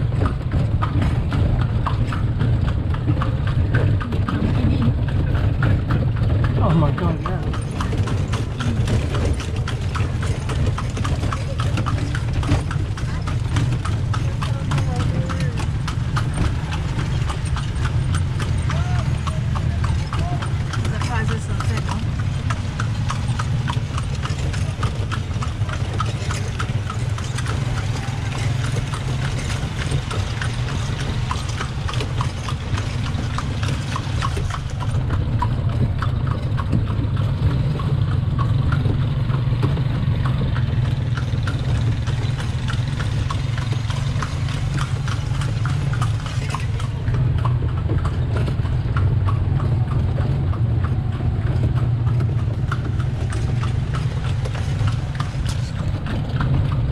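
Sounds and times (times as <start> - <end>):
hooves clip-clopping on cobblestones: 0.0 - 56.9.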